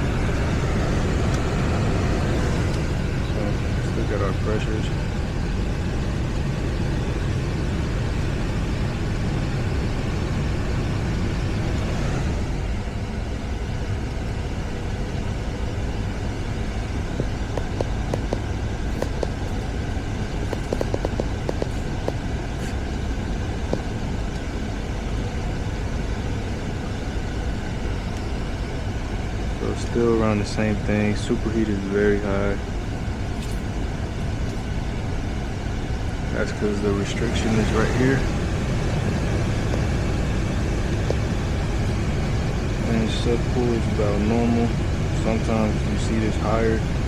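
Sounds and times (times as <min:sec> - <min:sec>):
air conditioner unit drone: 0:00.0 - 0:47.0.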